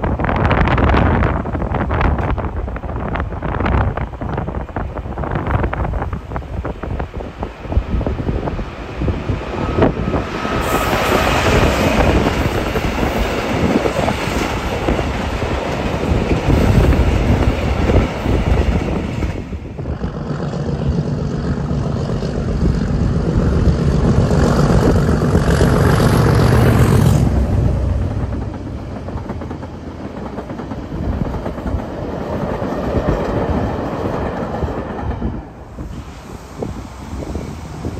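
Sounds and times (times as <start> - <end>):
diesel locomotive engine: 0.0 - 37.9.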